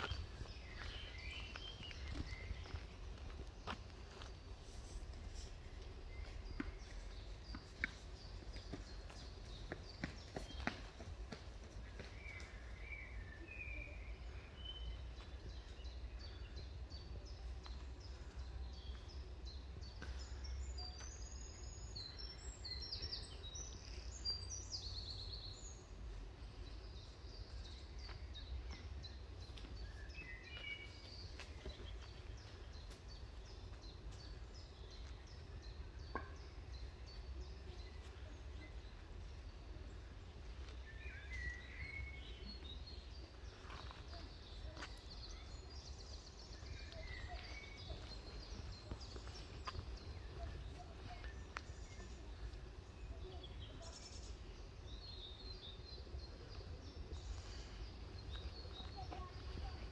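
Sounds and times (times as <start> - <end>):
small birds singing and chirping: 0.0 - 59.9.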